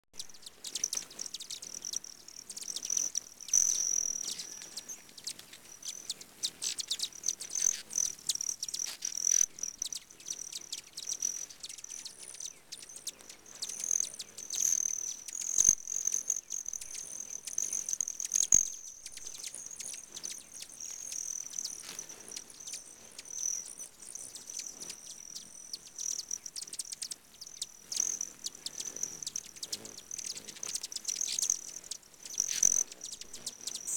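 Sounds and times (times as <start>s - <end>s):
hummingbird chips and squeaks: 0.2s - 33.9s.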